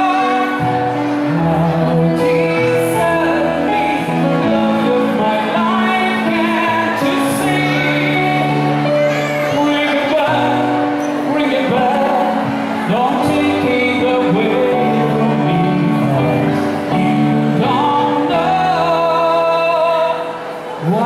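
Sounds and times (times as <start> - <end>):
amplified backing music: 0.0 - 21.0
man singing into a microphone: 0.0 - 21.0.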